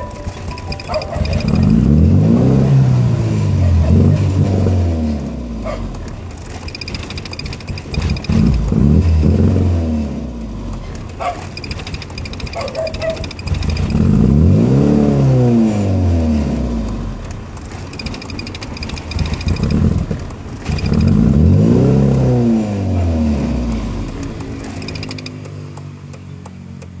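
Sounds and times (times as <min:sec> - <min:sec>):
motor vehicles passing: 0:00.0 - 0:27.0.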